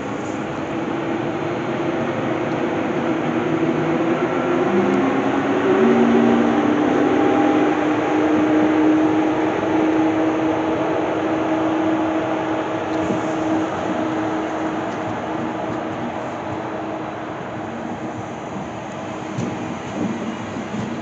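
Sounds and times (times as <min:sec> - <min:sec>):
train drive hum rising in pitch: 0:00.0 - 0:21.0
train wheels rumbling on rails: 0:00.0 - 0:21.0.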